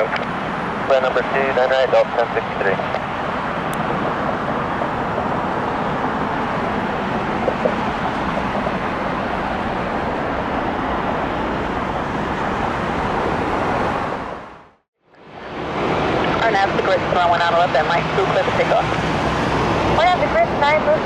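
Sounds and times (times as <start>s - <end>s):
jet airliner engine rush: 0.3s - 14.7s, 15.3s - 21.0s.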